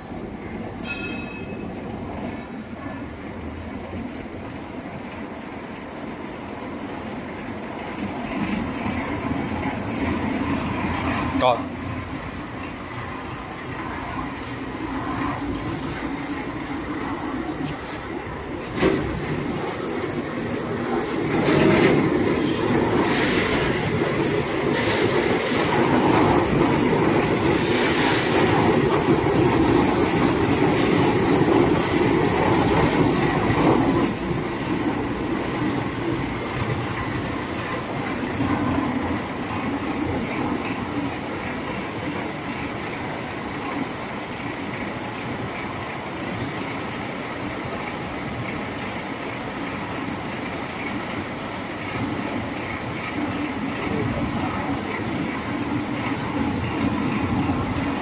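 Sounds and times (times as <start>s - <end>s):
machine whine and rumble: 0.0s - 58.0s.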